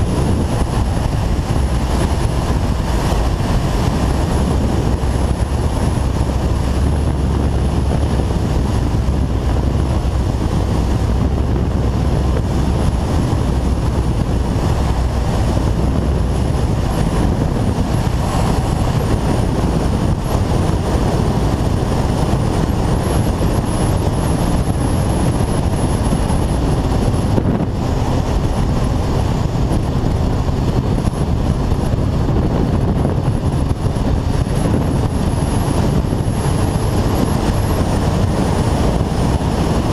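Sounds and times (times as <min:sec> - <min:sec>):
motorcycle engine: 0:00.0 - 0:39.9
wind rushing: 0:00.0 - 0:39.9.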